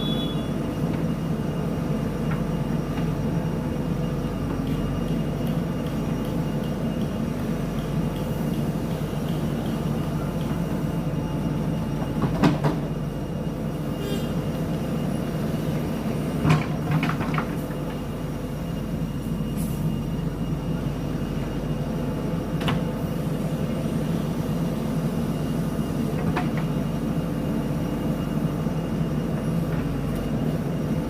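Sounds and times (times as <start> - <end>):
backhoe diesel engine running: 0.0 - 31.0.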